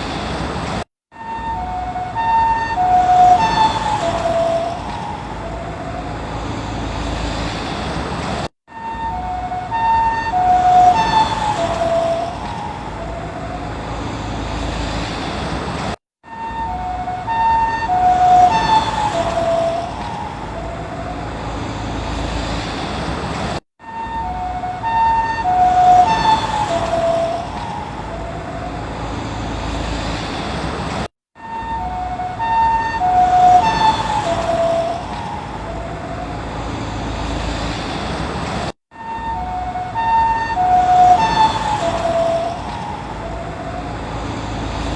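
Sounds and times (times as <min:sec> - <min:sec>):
road noise: 0:00.0 - 0:44.9
ambulance two-tone siren passing: 0:01.1 - 0:07.6, 0:08.7 - 0:15.2, 0:16.2 - 0:22.8, 0:23.8 - 0:30.2, 0:31.4 - 0:37.9, 0:38.9 - 0:44.9.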